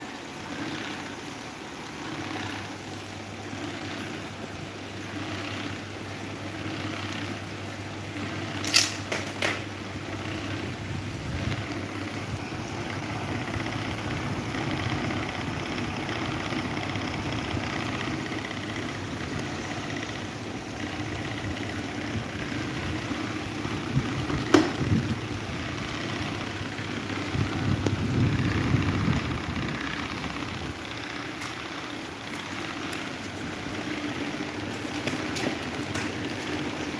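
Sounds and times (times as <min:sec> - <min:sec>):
electric fan humming: 0:00.0 - 0:36.9.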